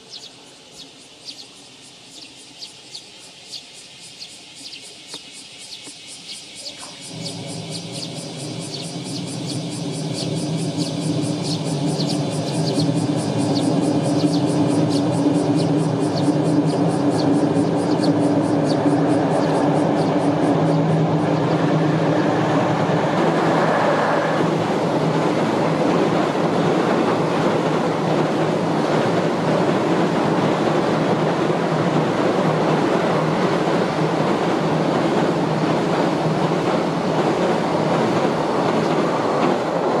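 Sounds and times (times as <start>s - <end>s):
electric locomotive humming: 0.0s - 40.0s
train wheels rumbling over bridge: 0.0s - 40.0s.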